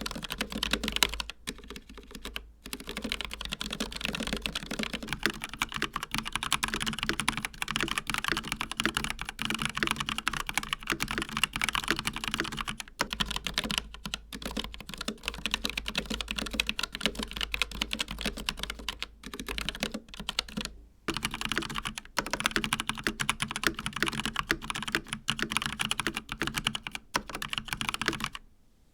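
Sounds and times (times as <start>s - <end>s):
fast mechanical keyboard typing: 0.0s - 28.4s
quieter keyboard typing: 0.0s - 28.5s.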